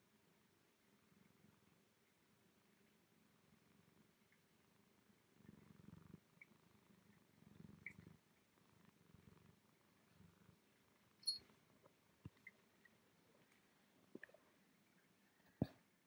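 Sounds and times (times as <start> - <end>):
cat purring: 0.1 - 16.0.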